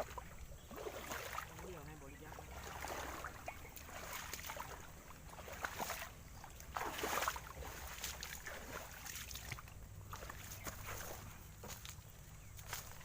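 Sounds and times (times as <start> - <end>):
person wading through water: 0.0 - 13.0.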